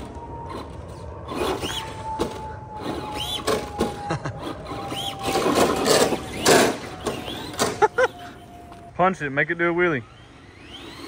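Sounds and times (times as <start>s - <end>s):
electric motor whining: 0.0s - 8.9s, 9.5s - 11.0s.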